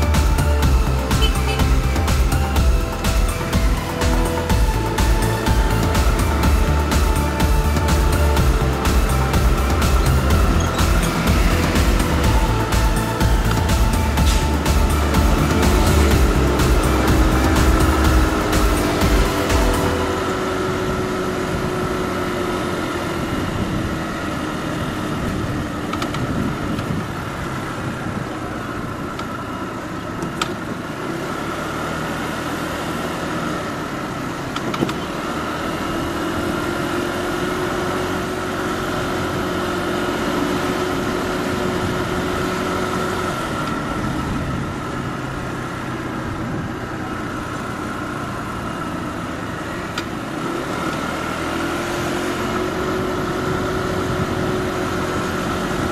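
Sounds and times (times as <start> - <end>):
motorbike engine running: 0.0 - 55.9.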